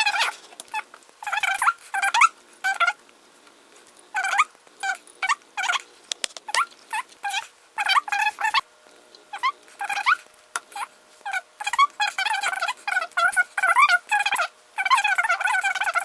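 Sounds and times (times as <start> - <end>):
squeaky animal calls: 0.0 - 3.0, 4.1 - 5.8, 6.5 - 8.7, 9.3 - 16.0.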